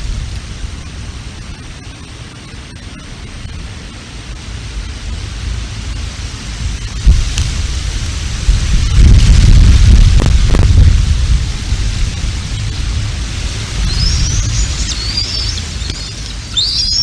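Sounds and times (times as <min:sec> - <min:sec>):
strong wind buffeting microphone: 0:03.4 - 0:17.0.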